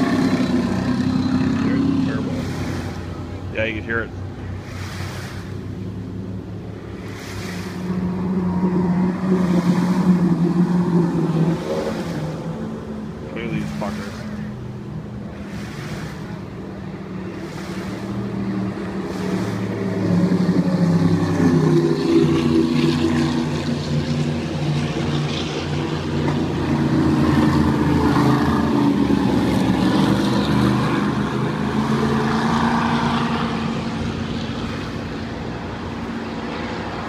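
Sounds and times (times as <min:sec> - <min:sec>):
powerboat engines droning: 0:00.0 - 0:37.0.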